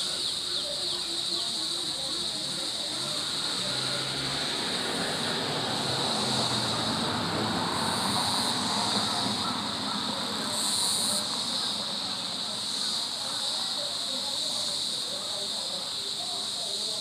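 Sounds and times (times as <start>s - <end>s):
higher insect buzz: 0.0s - 17.0s
insect chorus drone: 0.0s - 17.0s.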